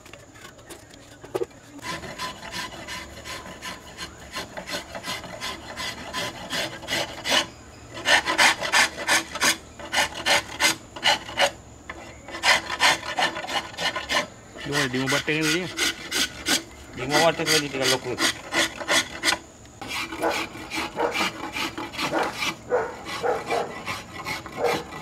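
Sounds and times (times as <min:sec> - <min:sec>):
file rasping on wood: 0:01.8 - 0:25.0.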